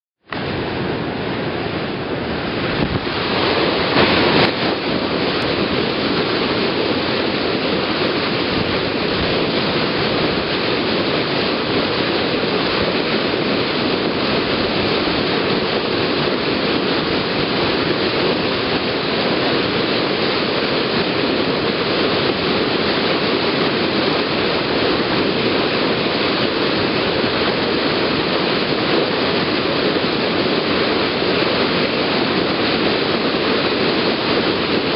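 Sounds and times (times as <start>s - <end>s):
water foaming along hull: 0.2s - 34.9s.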